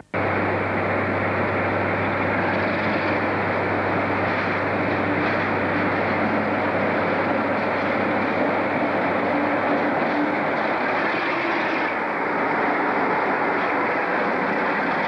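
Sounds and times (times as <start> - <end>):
diesel locomotive engine humming: 0.0 - 15.0.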